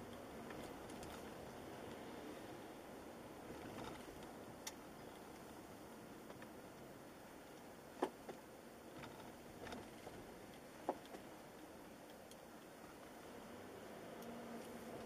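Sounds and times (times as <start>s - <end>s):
car cabin noise: 2.7s - 15.0s.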